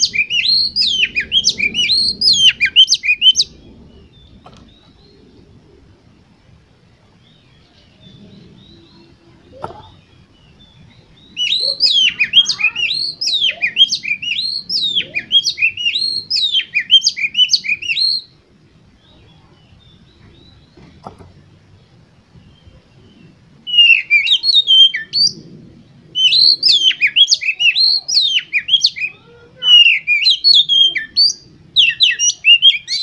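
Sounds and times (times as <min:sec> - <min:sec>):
bird singing whistled notes: 0:00.0 - 0:05.4, 0:07.1 - 0:18.4, 0:22.3 - 0:33.0.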